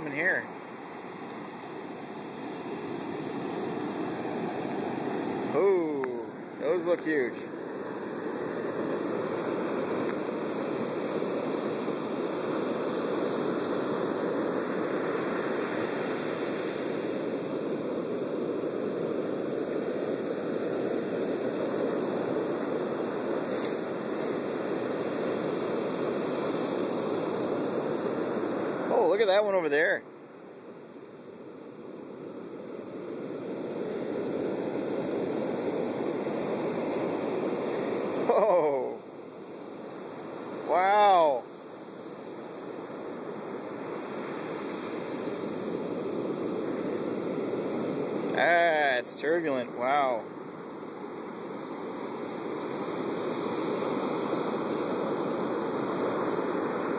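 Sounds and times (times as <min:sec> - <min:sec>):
waves breaking on sandy beach: 0:00.0 - 0:56.9.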